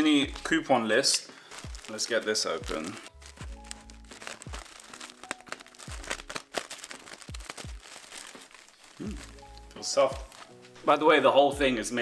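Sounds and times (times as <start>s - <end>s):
plastic bag crinkling: 0.0s - 11.0s
background music with beat: 0.0s - 12.0s.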